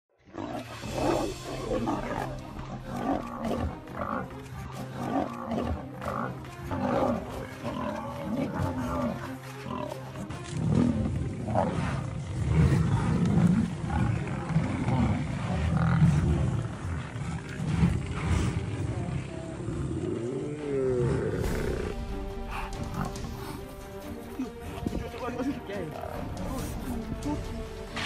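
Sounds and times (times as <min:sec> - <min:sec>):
lions growling and snarling: 0:00.2 - 0:28.0
low music drone: 0:00.2 - 0:28.0.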